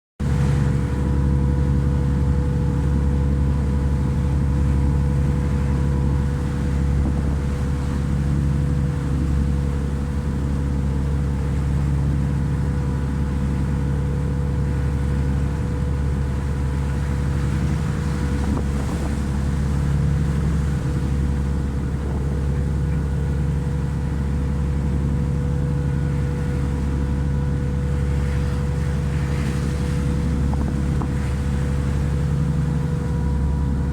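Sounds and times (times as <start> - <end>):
ship diesel engine droning: 0.2 - 33.9.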